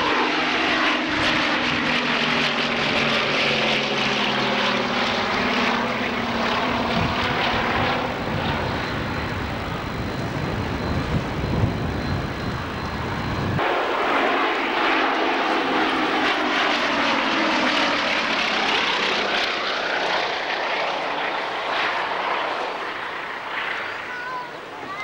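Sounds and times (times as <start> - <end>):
aircraft piston engines droning: 0.0 - 25.0.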